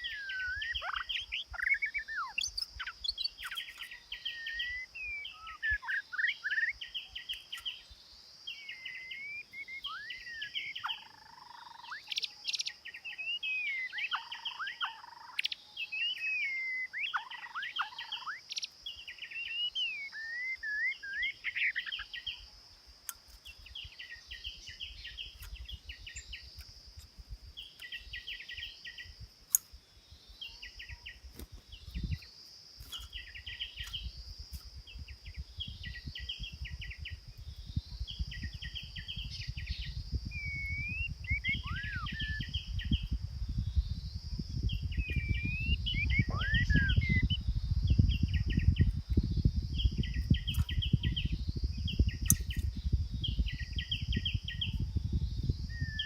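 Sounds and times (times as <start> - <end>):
songbird trilling and whistling: 0.0 - 26.7, 27.6 - 56.0
steady high-pitched hiss: 0.0 - 56.0.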